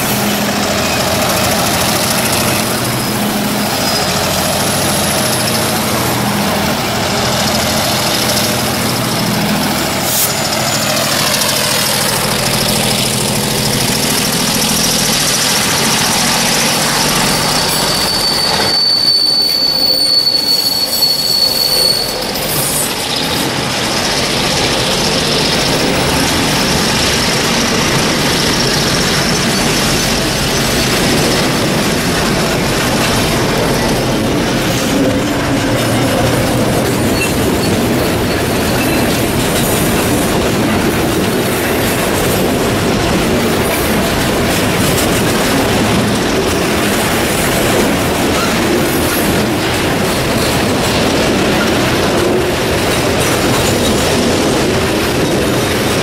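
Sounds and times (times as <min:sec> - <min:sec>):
high wheel squeal: 0:00.0 - 0:54.2
train wheels clattering on rails: 0:00.0 - 0:56.0.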